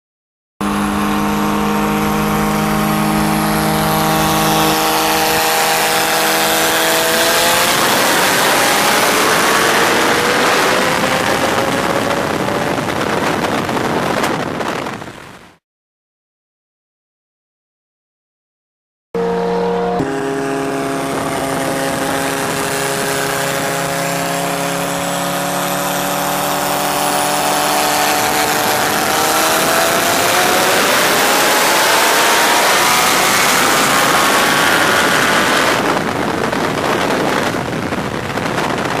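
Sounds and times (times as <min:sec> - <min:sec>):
car engine accelerating: 0:00.6 - 0:13.2, 0:19.2 - 0:39.0
wind and road noise: 0:00.6 - 0:15.6, 0:19.2 - 0:39.0.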